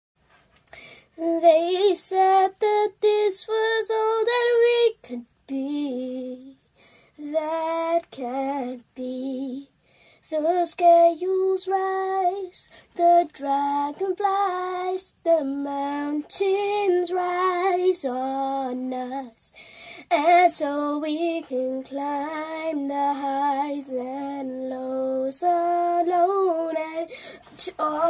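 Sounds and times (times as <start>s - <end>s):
girl singing: 1.2s - 6.6s, 7.2s - 28.0s.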